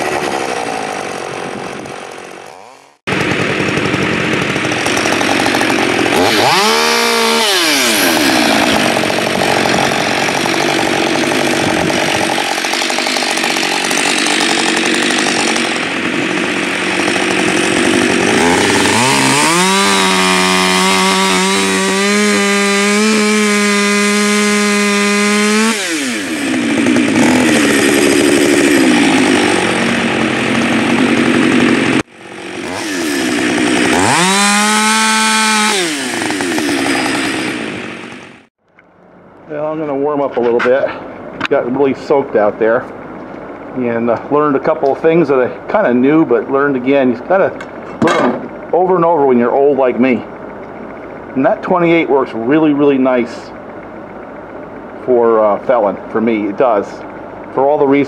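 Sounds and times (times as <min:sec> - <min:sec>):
chainsaw cutting logs: 0:00.0 - 0:38.5, 0:42.4 - 0:53.4.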